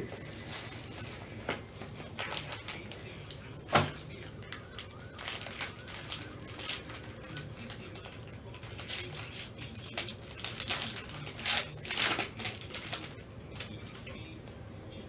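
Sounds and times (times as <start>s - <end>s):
plastic wrap crinkling: 0.0s - 14.1s.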